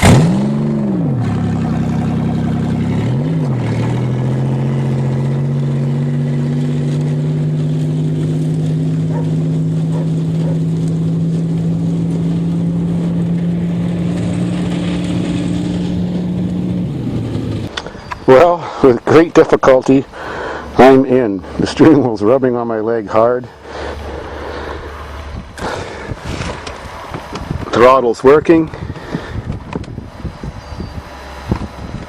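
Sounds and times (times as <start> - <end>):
engine running and revving: 0.0 - 18.3, 23.6 - 32.0.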